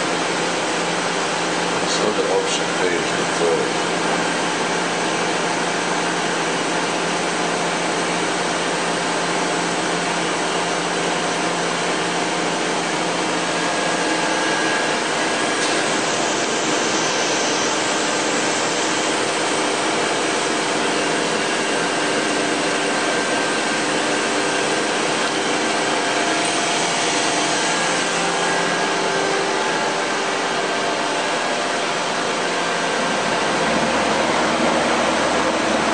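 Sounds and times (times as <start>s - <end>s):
machine whirring and humming: 0.0s - 35.9s.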